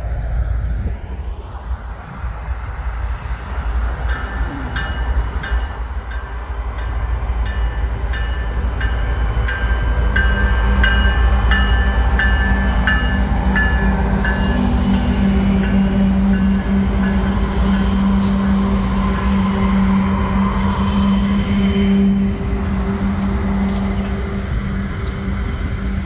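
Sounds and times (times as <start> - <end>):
diesel engines rumbling: 2.0 - 26.0
locomotive bell ringing: 4.1 - 25.0.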